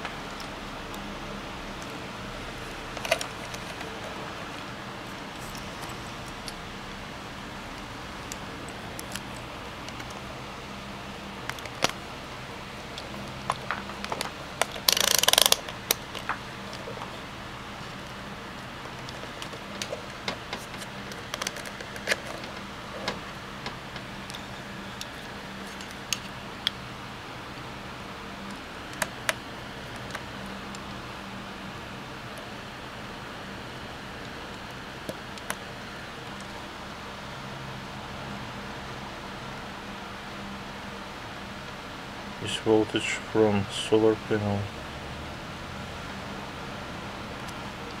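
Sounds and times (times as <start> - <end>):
faint hum: 0.0 - 48.0
steady hiss: 0.0 - 48.0.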